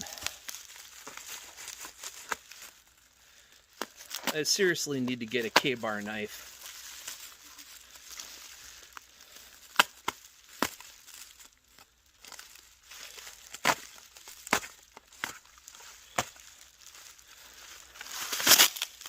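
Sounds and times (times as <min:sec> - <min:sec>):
packaging crinkling and tearing: 0:00.0 - 0:19.0.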